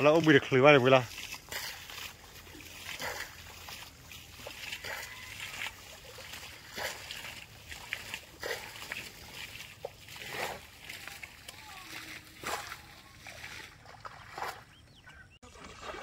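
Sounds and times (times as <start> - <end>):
hand splashing in muddy water: 0.0 - 14.7, 15.4 - 16.0.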